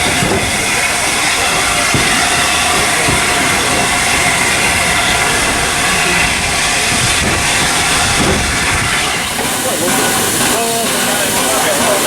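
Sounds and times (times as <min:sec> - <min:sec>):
steam train rumbling with hiss: 0:00.0 - 0:12.0.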